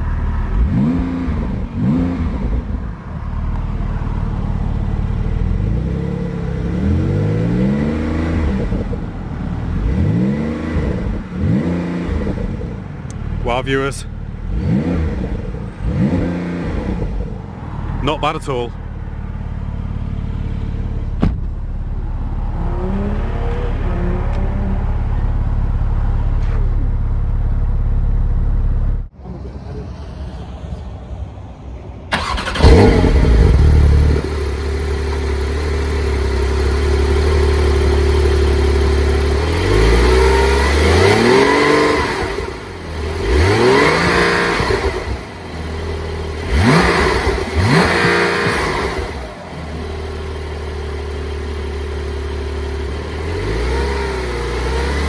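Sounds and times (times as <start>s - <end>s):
sports car engine idling and revving: 0.0s - 29.8s, 32.1s - 55.0s.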